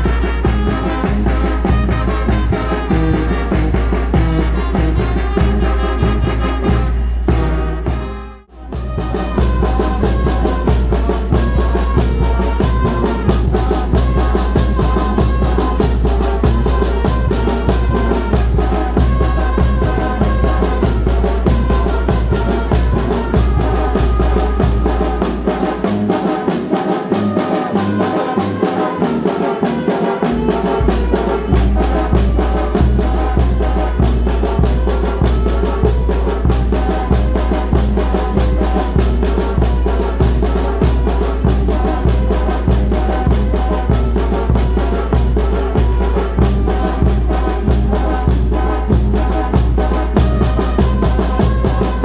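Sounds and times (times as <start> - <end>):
low drum and bass beat: 0.0 - 26.7, 30.3 - 52.0
brass instruments: 0.0 - 52.0.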